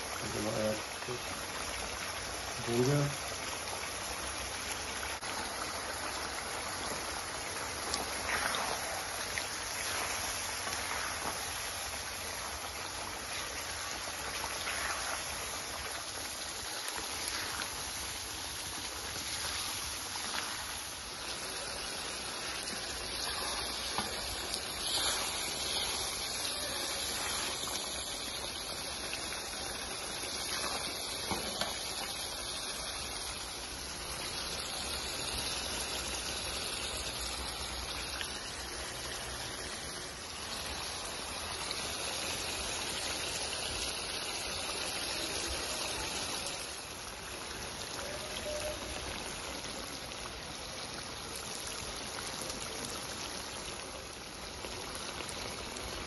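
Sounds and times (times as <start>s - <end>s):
gravy sizzling and bubbling in a wok: 0.0s - 56.0s.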